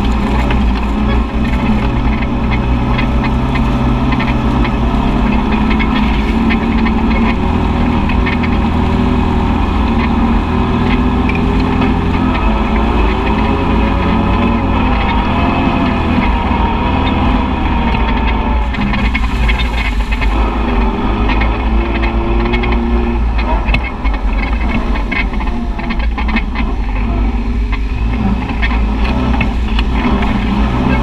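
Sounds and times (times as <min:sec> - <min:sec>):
utv engine running: 0:00.0 - 0:31.0.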